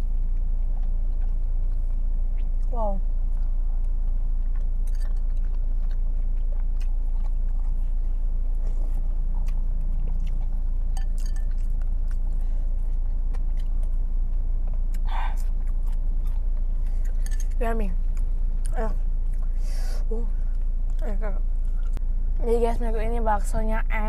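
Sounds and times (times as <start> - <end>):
person chewing food: 0.0 - 19.8, 20.4 - 22.0
steady low hum: 0.0 - 24.0.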